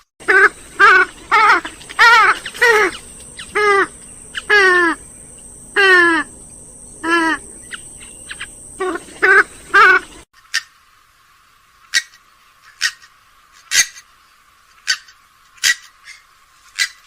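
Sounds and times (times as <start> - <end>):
swamphen calling: 0.2 - 10.9, 11.8 - 14.1, 14.7 - 17.0.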